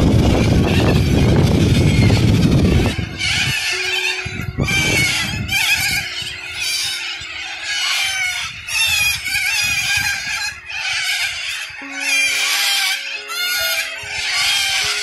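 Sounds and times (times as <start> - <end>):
flock of birds screeching: 0.0 - 15.0.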